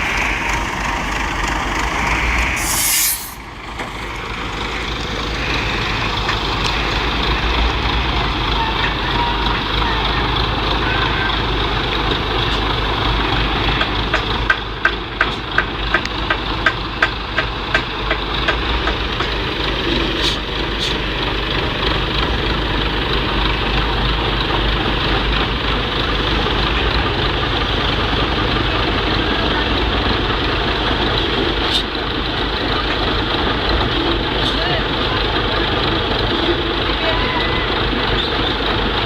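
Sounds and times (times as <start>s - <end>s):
vehicle engine running: 0.0s - 39.0s.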